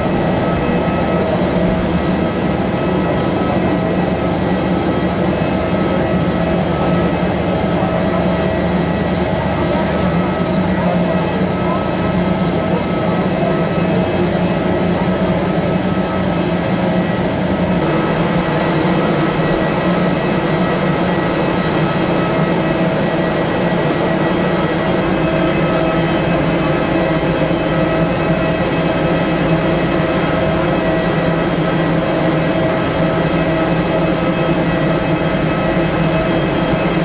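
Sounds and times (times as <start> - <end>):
aircraft and machinery drone: 0.0 - 37.0
constant mechanical whine: 0.0 - 37.0.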